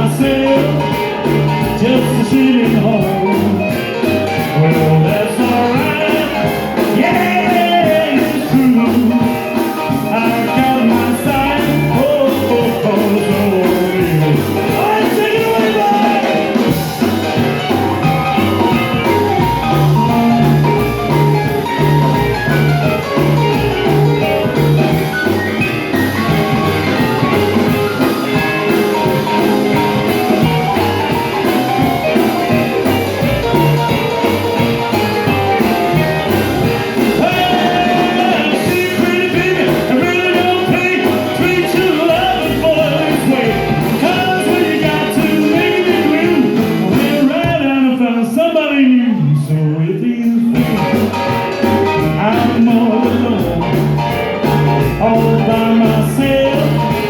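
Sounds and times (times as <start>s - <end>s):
rockabilly band playing instrumental: 0.0s - 57.0s.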